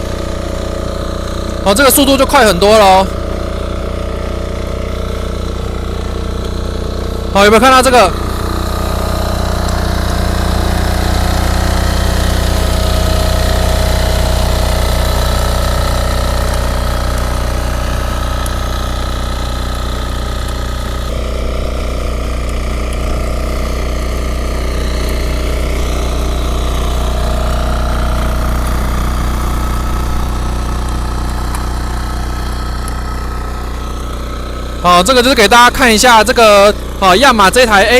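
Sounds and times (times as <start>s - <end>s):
tiller engine running: 0.0s - 37.9s
tines tilling soil: 0.0s - 37.9s.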